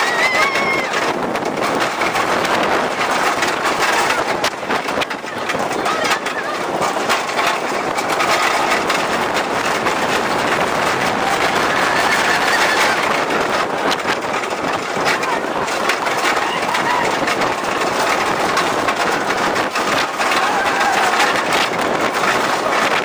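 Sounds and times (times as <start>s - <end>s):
roller coaster cars rattling: 0.0s - 23.0s
wind rushing on microphone: 0.0s - 23.0s.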